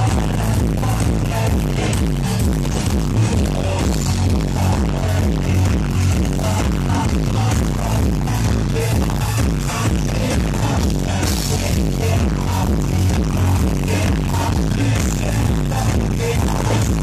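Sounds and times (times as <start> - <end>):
live band playing industrial music: 0.0 - 17.0.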